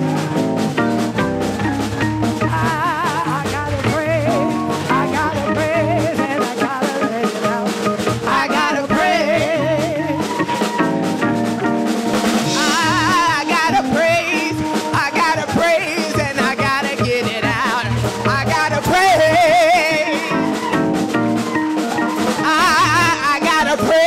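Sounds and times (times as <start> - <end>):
live gospel band playing: 0.0 - 24.0.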